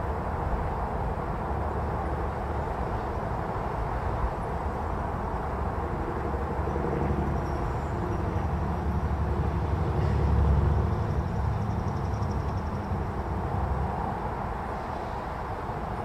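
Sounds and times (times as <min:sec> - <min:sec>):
distant freight train rumble: 0:00.0 - 0:16.0.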